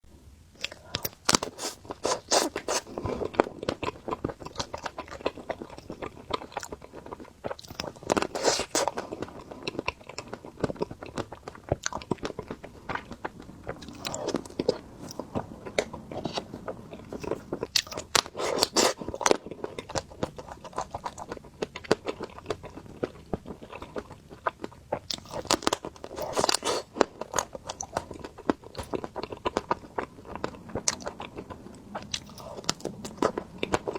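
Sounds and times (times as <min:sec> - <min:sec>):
soft chewing: 0:00.5 - 0:33.9
crunchy ice cream bites: 0:00.6 - 0:33.9.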